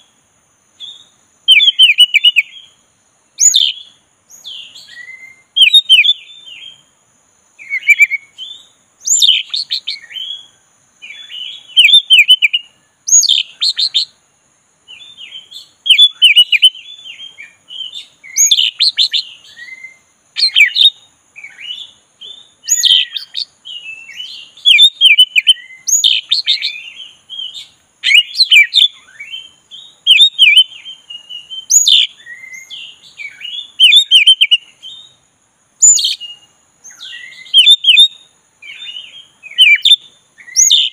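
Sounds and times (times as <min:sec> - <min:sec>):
bird singing whistles and chirps: 0:00.8 - 0:02.8, 0:03.4 - 0:06.9, 0:07.6 - 0:14.2, 0:14.8 - 0:35.2, 0:35.8 - 0:40.9.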